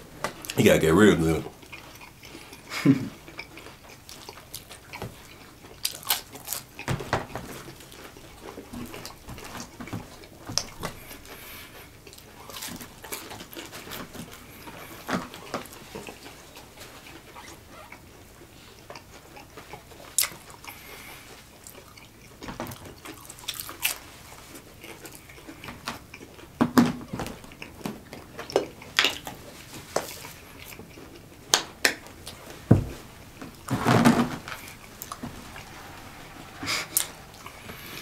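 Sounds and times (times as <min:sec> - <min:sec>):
people chewing food: 0:00.0 - 0:38.0.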